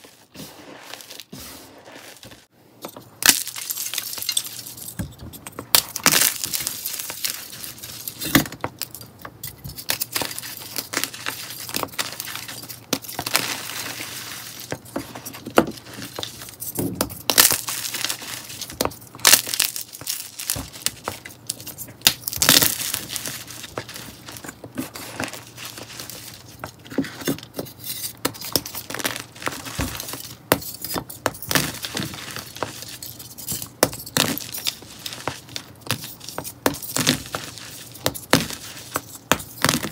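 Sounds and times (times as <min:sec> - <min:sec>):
hands crushing dried soap: 0:03.1 - 0:39.9.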